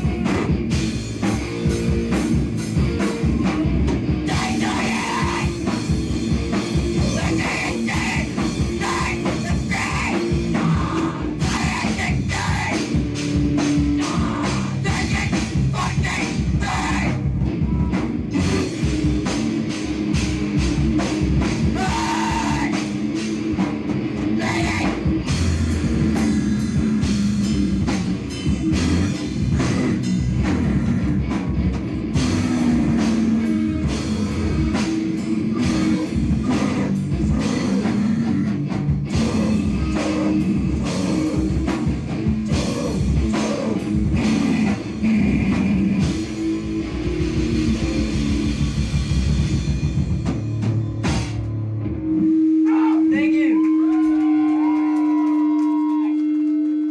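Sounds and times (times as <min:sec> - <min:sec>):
rapid drum kit hits: 0:00.0 - 0:51.7
distorted guitar and bass drone: 0:00.0 - 0:56.9.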